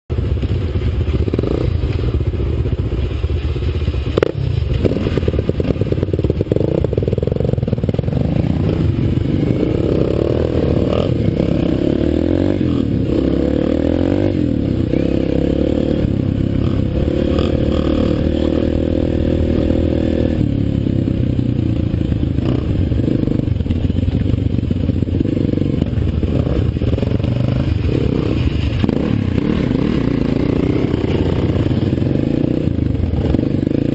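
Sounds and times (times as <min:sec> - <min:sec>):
dirt bike engine revving: 0:01.0 - 0:02.3, 0:04.1 - 0:33.9.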